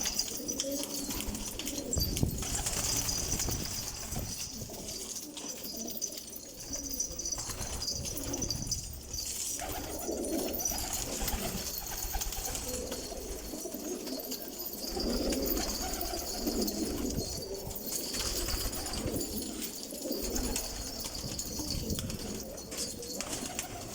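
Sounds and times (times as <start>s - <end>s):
pigeons cooing: 0.0s - 8.9s, 9.6s - 23.9s.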